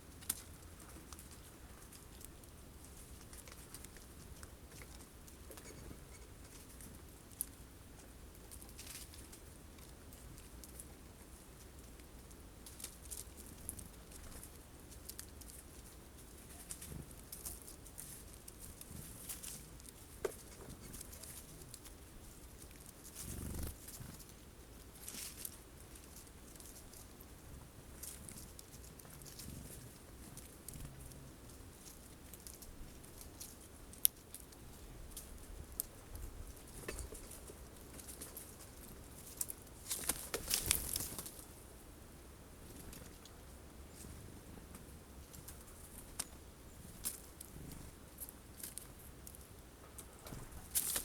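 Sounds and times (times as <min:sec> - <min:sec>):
birds pecking seeds: 0:00.0 - 0:51.0.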